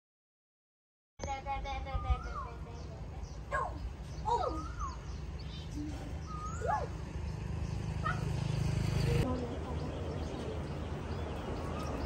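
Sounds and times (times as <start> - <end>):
birds calling: 1.2 - 12.0.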